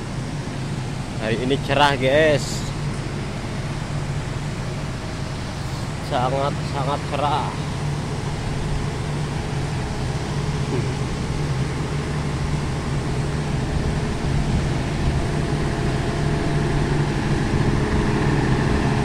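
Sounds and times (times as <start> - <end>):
generator engine drone: 0.0 - 19.0
paddlewheel aerators churning: 0.0 - 19.0.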